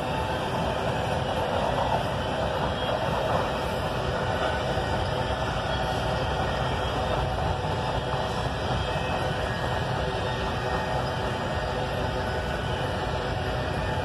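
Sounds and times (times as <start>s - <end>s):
steel wheels rolling on rail: 0.0s - 14.0s.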